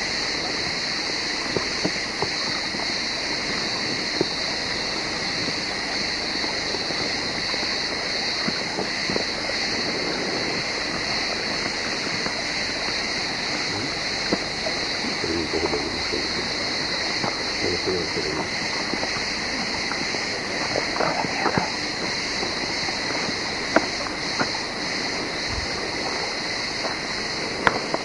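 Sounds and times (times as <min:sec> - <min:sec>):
stream running: 0:00.0 - 0:28.0.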